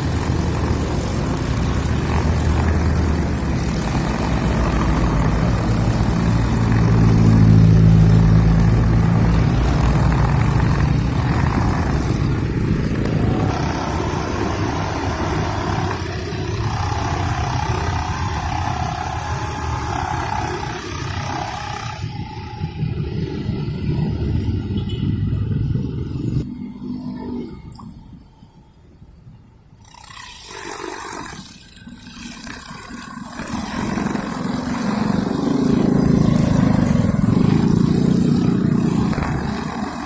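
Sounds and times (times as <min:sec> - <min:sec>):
brush cutter engine cutting grass: 0:00.0 - 0:23.3, 0:29.8 - 0:40.0.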